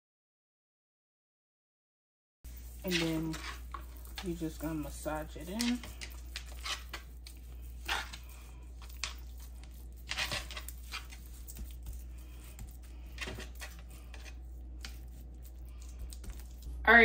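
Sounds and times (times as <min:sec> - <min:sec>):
hands rubbing raw fish: 0:02.5 - 0:16.8.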